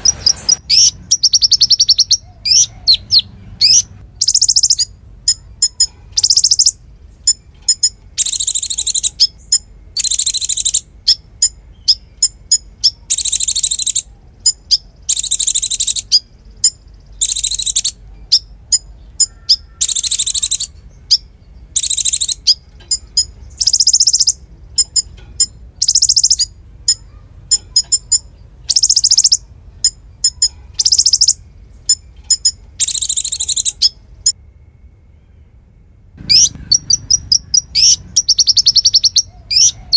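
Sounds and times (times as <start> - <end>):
sharp bird chips: 0.0 - 34.4, 36.2 - 39.9
songbird singing: 0.0 - 39.9.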